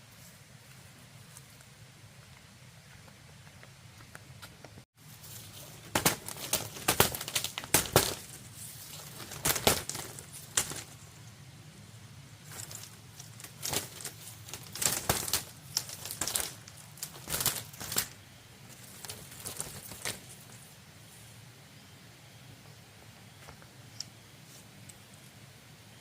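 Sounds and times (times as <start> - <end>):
crackling and rustling: 0.0 - 21.4.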